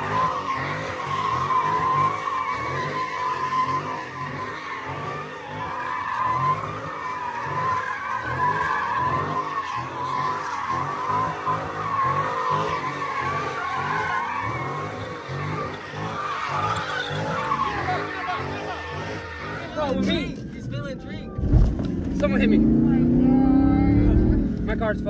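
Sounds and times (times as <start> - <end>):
car engine revving: 0.0 - 25.0
tires squealing: 0.0 - 25.0.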